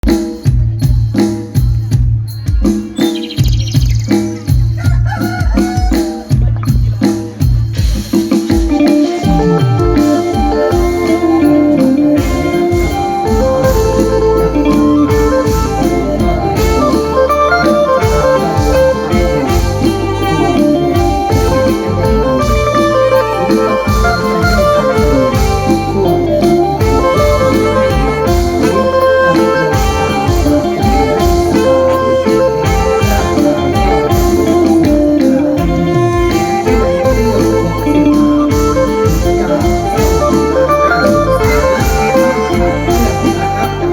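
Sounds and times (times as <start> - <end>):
steady drum beat: 0.0 - 43.9
organ-like melody: 8.3 - 43.9.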